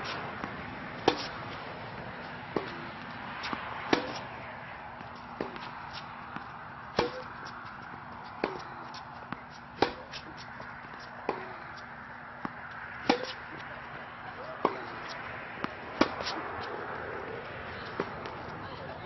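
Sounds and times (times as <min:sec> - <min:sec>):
racket striking tennis ball: 0:00.0 - 0:01.5, 0:02.5 - 0:04.4, 0:05.0 - 0:07.6, 0:08.3 - 0:13.8, 0:14.4 - 0:18.5
tennis ball bouncing: 0:00.0 - 0:19.0.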